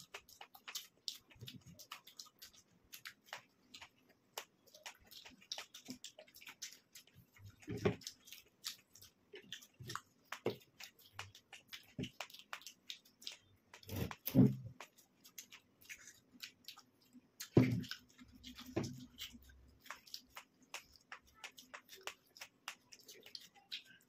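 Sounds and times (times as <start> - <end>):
people chewing food: 0.0 - 24.0
wet mouth clicks and smacks: 0.0 - 24.0.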